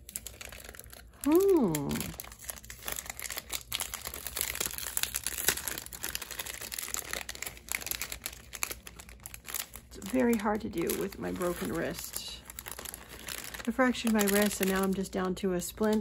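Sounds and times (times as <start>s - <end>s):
crinkly wrapper crackling: 0.0s - 16.0s.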